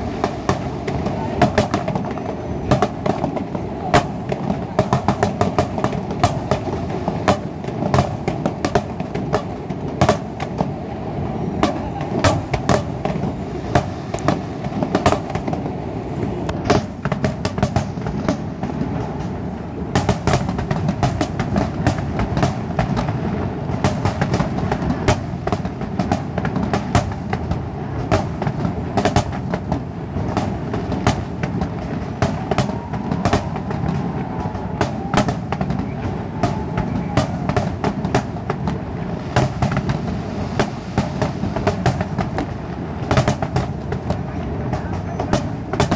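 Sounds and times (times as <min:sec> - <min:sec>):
fireworks bangs and crackles: 0:00.0 - 0:45.9
rumble of fireworks bursts: 0:00.0 - 0:45.9.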